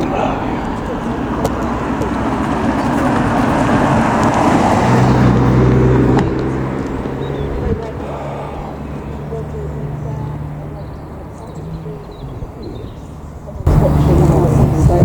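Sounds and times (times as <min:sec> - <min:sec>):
vehicle driving past: 0:00.0 - 0:15.0.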